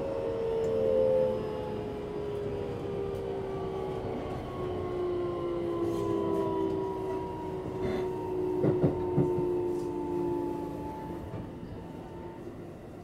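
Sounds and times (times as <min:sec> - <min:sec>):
electric train motor whine: 0:00.0 - 0:12.3
rumble of train wheels: 0:00.0 - 0:13.0.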